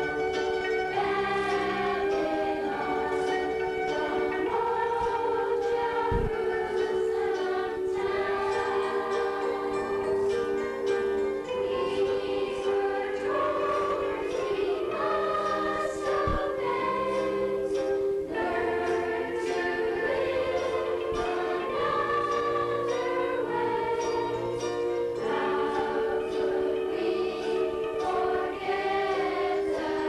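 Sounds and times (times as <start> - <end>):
soft accompaniment: 0.0 - 30.0
youth choir singing: 0.0 - 30.0.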